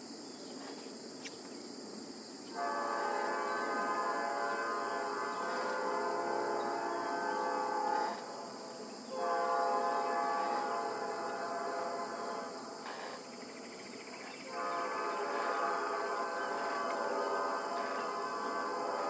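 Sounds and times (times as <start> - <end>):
insects chirring: 0.0 - 19.0
train horn blasts: 2.5 - 13.3, 14.3 - 19.0.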